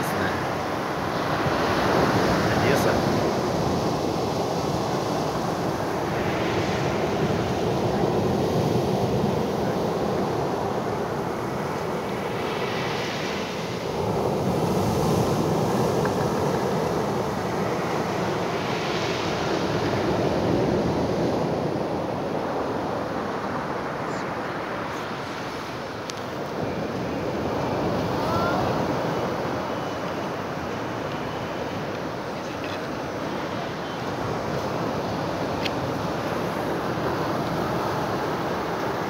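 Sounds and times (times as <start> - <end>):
surf breaking on sandy beach: 0.0 - 39.0.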